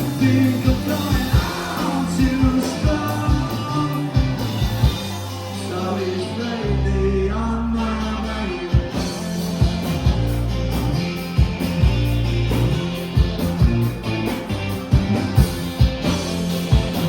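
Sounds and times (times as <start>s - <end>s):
drum beats: 0.0s - 5.6s, 8.7s - 17.0s
amplified guitar: 0.0s - 17.0s
bass line: 0.0s - 17.0s.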